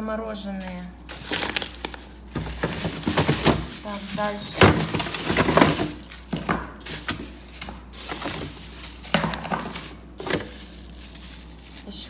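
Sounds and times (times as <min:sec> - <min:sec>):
plastic bags crinkling: 0:00.0 - 0:12.0
frozen packets knocking: 0:00.4 - 0:12.0.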